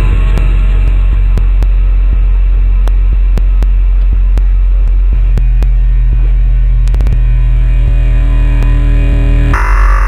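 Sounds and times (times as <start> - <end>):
low bass drone: 0.0 - 10.0.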